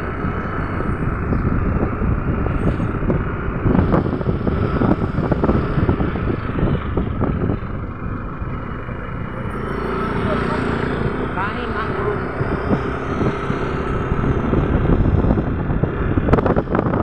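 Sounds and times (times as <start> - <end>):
motor scooter engine running: 0.0 - 17.0
wind buffeting microphone: 0.0 - 17.0.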